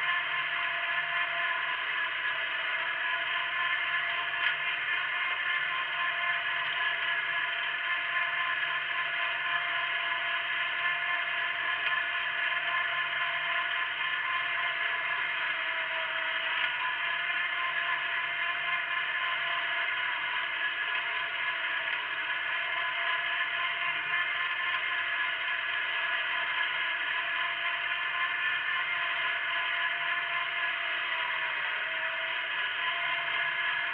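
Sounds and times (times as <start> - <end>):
garden tractor engine droning: 0.0 - 33.9.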